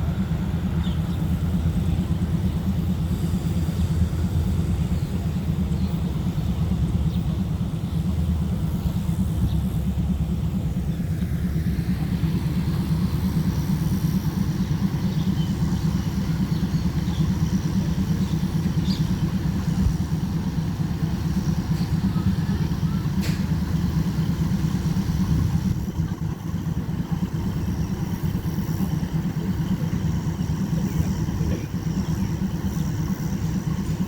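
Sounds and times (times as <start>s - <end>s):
diesel train engine rumbling: 0.0s - 34.0s.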